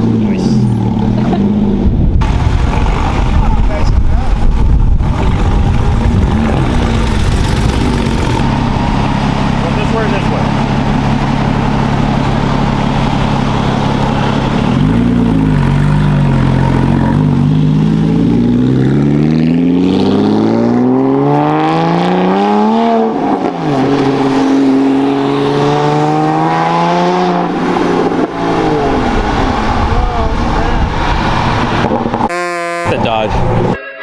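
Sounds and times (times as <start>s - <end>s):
car engine idling and revving: 0.0s - 33.8s.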